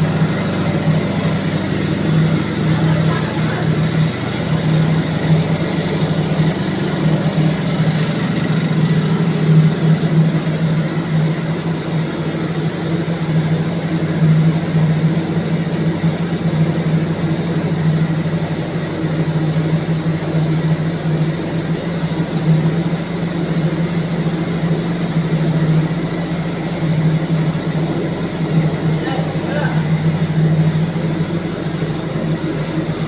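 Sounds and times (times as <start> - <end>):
diesel generator engine drone: 0.0 - 33.0.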